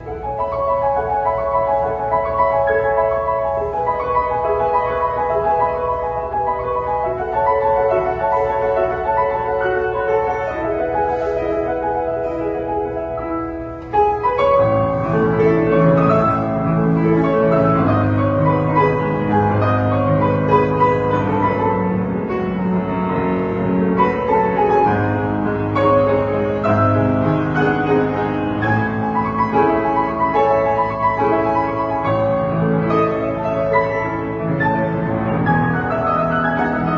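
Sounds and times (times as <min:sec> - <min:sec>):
piano and mallet percussion music: 0:00.0 - 0:36.9.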